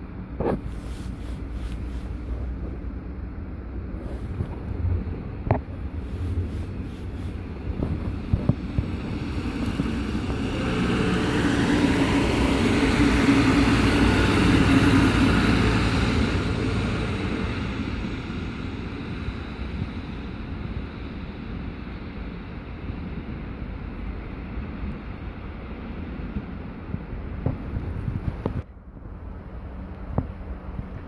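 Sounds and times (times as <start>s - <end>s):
diesel train passing: 0.0s - 31.0s
wind buffeting microphone: 2.2s - 23.7s, 24.6s - 29.2s.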